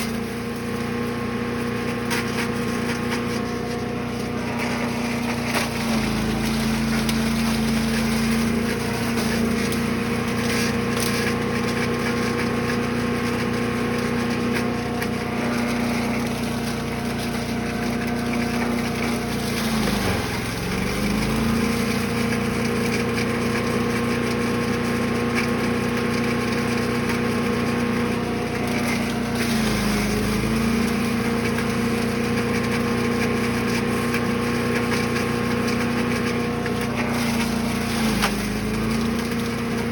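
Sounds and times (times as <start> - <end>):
chipper engine mulching: 0.0 - 39.9.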